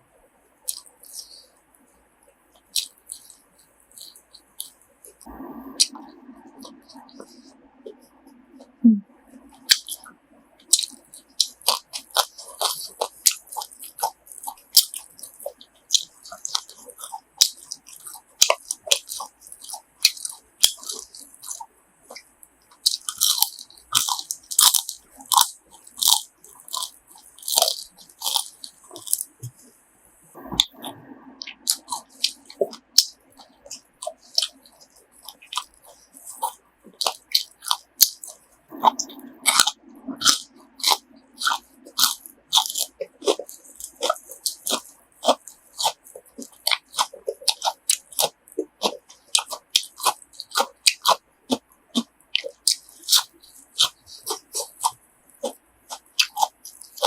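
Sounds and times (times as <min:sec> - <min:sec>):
chewing and biting: 0:00.6 - 0:01.5, 0:02.5 - 0:08.7, 0:09.4 - 0:29.7, 0:30.3 - 0:57.0.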